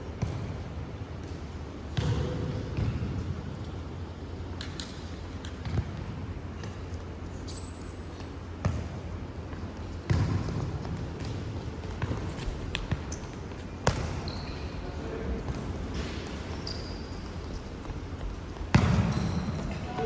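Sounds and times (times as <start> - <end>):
ball kicked and bouncing: 0.2 - 3.3, 4.6 - 14.8, 15.4 - 20.0.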